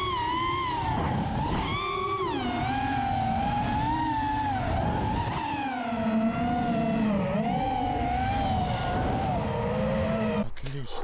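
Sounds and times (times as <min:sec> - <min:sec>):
wind rumble on microphone: 0:00.0 - 0:10.4
drone propellers whining: 0:00.0 - 0:11.0.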